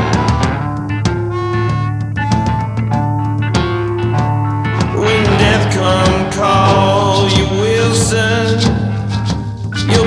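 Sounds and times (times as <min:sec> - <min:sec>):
drum beat: 0:00.0 - 0:10.0
low bass tone: 0:00.0 - 0:10.0
resonator guitar picked notes: 0:00.0 - 0:10.0.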